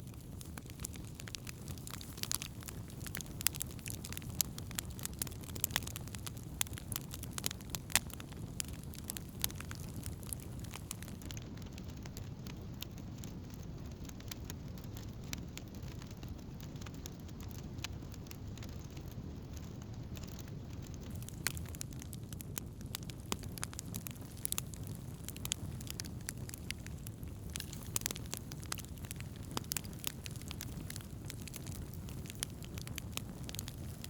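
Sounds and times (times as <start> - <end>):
campfire crackling and popping: 0.0 - 34.0
low rush of flame: 0.0 - 34.0.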